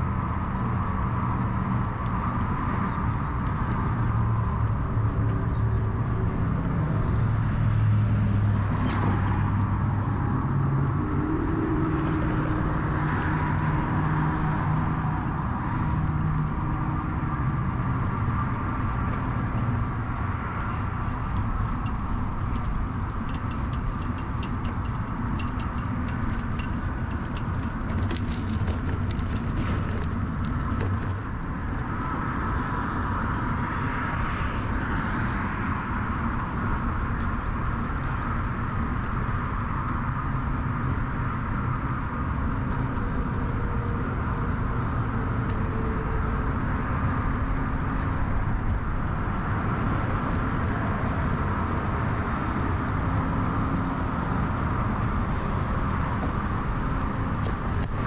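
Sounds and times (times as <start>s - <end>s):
bicycle tyre rumble: 0.0s - 58.0s
wind on microphone: 0.0s - 58.0s.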